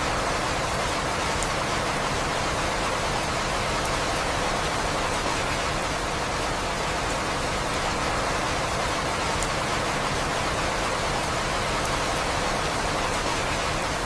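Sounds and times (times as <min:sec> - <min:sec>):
steady rainfall hiss: 0:00.0 - 0:14.0.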